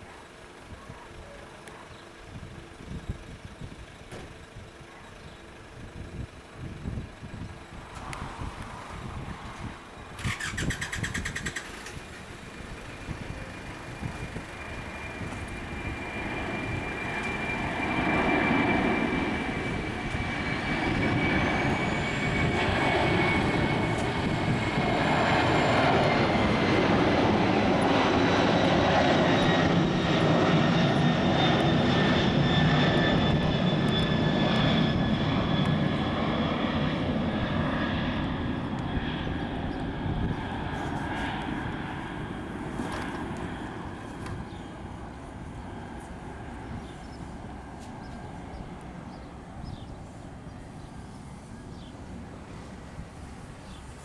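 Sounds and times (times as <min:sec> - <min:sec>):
jetliner engines passing: 0:00.0 - 0:54.0.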